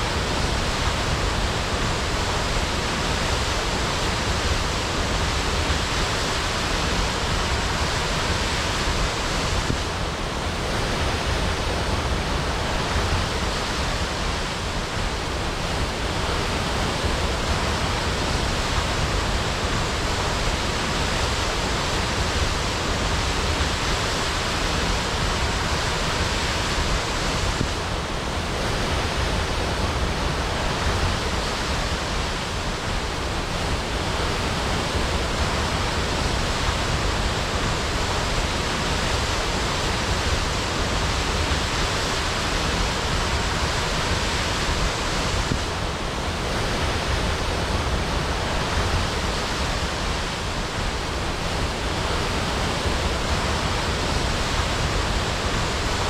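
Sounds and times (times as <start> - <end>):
waterfall crashing: 0.0 - 56.0.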